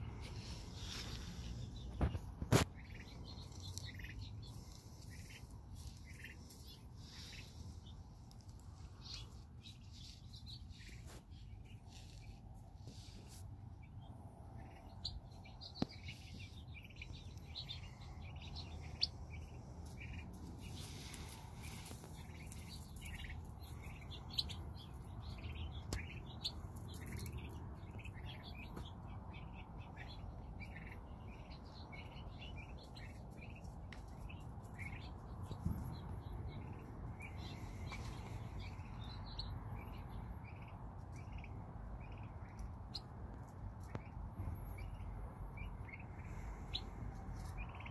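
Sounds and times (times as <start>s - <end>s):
steady low rumble: 0.0s - 47.9s
turkey poults peeping: 0.1s - 47.9s.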